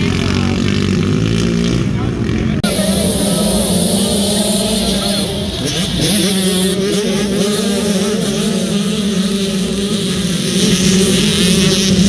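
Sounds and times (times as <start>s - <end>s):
motorcycle engines buzzing: 0.0s - 12.0s.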